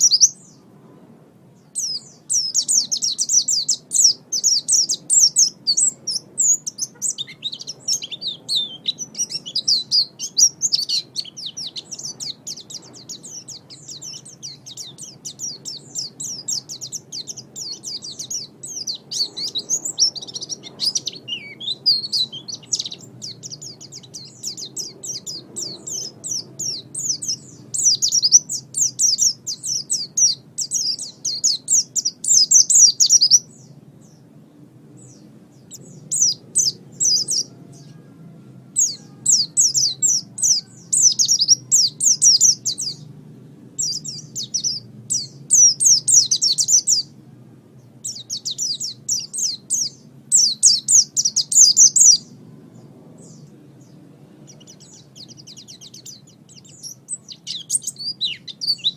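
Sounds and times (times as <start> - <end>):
bird twittering: 0.0 - 0.6, 1.6 - 34.2, 35.0 - 38.1, 38.8 - 43.1, 43.8 - 47.1, 48.0 - 52.4, 54.5 - 58.9.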